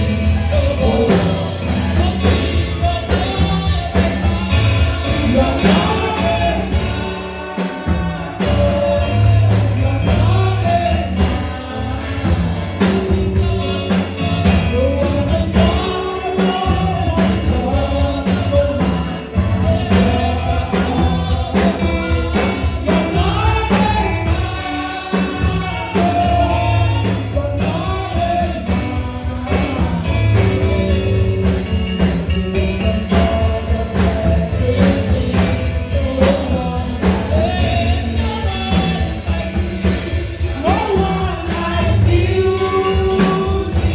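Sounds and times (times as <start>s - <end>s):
group singing gospel: 0.0s - 43.9s
live band playing: 0.0s - 43.9s.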